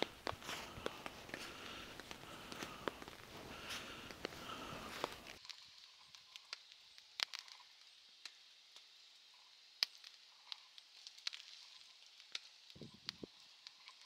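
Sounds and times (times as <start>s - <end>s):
faint fire hiss: 0.0s - 14.0s
wood fire crackling: 0.0s - 14.0s.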